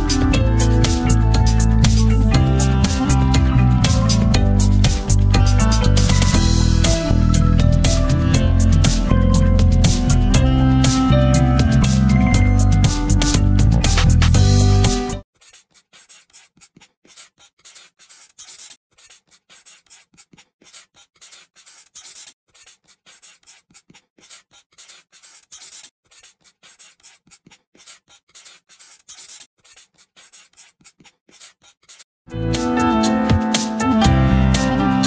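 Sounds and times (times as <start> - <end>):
marker rubbing on paper: 0.0 - 12.2, 12.8 - 32.1.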